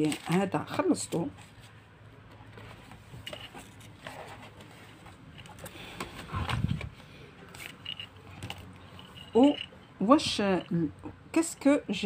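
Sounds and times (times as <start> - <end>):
soft rustles of packaging: 0.0 - 9.8.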